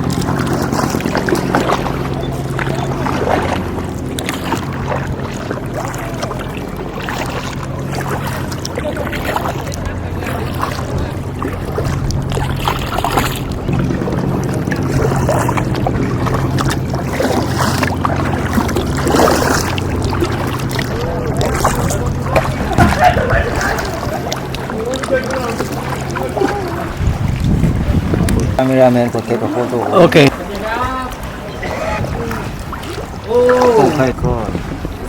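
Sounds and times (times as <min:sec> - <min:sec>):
boat engine humming: 0:00.0 - 0:35.0
water and wind noise: 0:00.0 - 0:35.0
faint voices: 0:00.4 - 0:15.8, 0:19.2 - 0:35.0.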